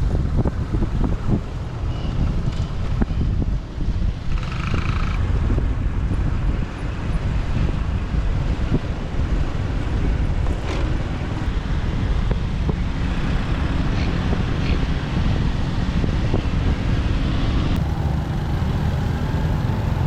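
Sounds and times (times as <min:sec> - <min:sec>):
motorbike engine and road rumble: 0:00.0 - 0:20.0
wind buffeting microphone: 0:00.0 - 0:20.0.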